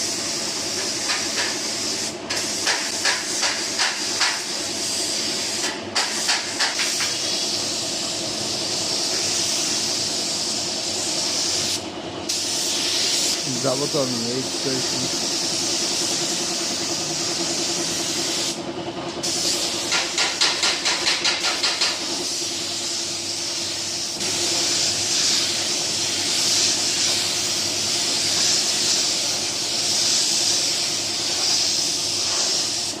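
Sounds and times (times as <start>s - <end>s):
paint spray gun hissing: 0.0s - 33.0s.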